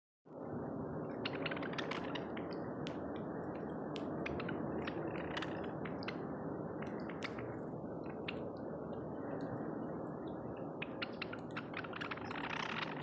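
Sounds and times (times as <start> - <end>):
steady low hiss: 0.3 - 13.0
small birds chipping: 1.8 - 13.0.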